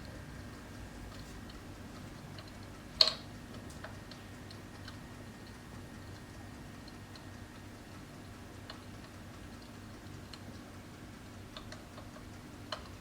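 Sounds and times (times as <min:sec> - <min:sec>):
electric fireplace crackles and pops: 0:00.0 - 0:13.0
steady low hum: 0:00.0 - 0:13.0.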